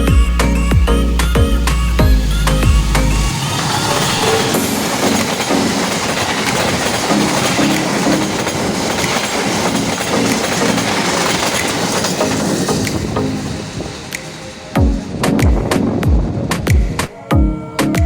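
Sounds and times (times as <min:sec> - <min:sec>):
train wheels clattering over rails: 0:02.6 - 0:17.1.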